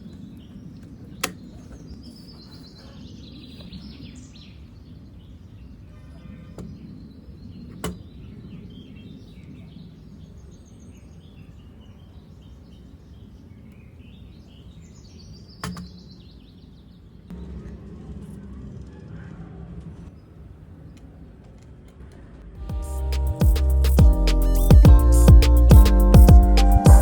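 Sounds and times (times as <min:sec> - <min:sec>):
birds chirping: 0:00.0 - 0:17.6, 0:22.6 - 0:27.0.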